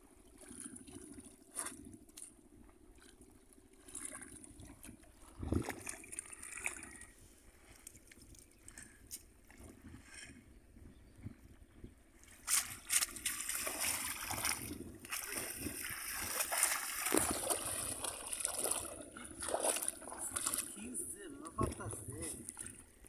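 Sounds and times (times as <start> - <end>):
splashing of shallow water: 0.1 - 10.3, 12.2 - 23.0.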